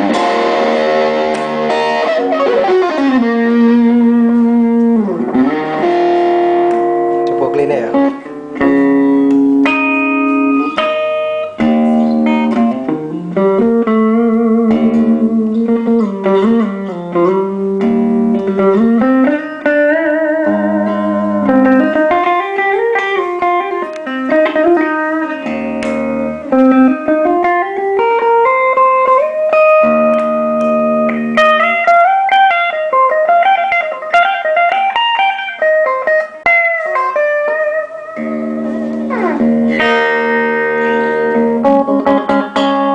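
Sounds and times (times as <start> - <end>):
electric guitar lead melody: 0.0 - 42.9.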